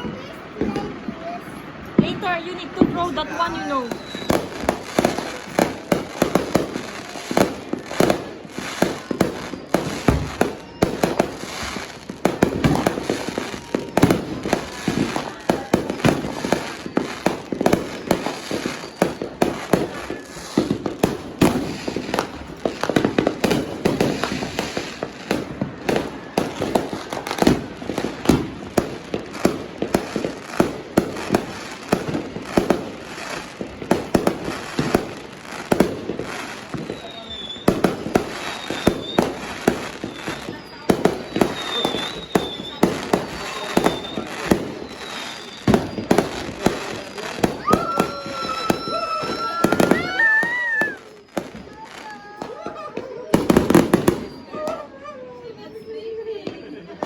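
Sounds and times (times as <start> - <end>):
firecrackers bangs and pops: 0.0 - 54.9.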